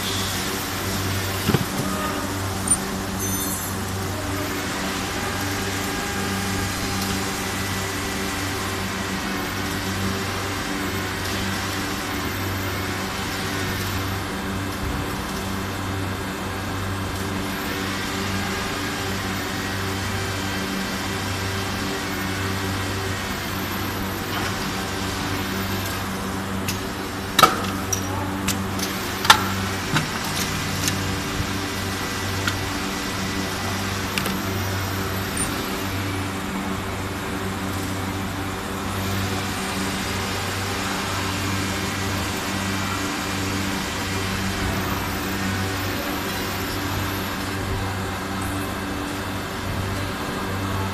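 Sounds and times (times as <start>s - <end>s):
moulding machine humming: 0.0s - 50.9s.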